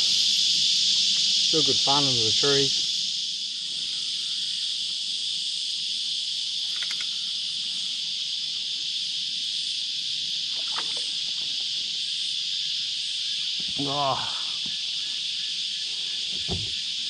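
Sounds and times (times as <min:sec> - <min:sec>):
cicada chorus: 0:00.0 - 0:17.0.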